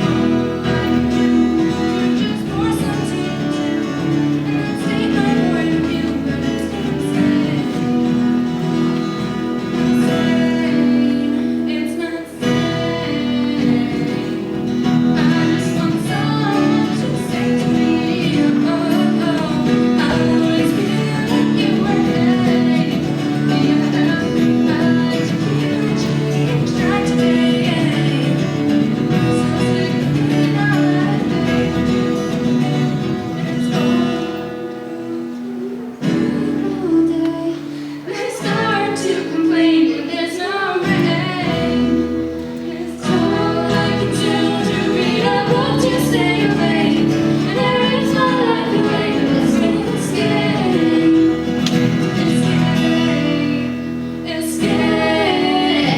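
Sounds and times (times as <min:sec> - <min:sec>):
woman singing: 0:00.0 - 0:32.9, 0:33.7 - 0:55.9
acoustic guitar: 0:00.0 - 0:55.9.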